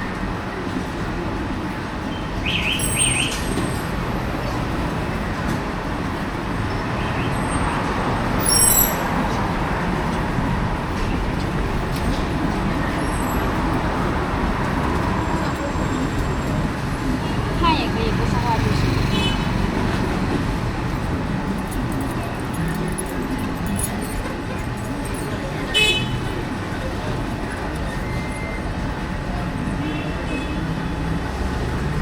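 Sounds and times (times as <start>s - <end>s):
traffic noise: 0.0s - 32.0s.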